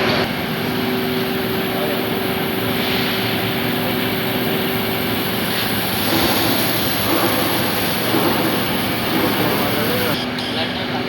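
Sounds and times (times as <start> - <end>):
welder hiss and hum: 0.0 - 10.2
steady hum tones: 0.0 - 10.7.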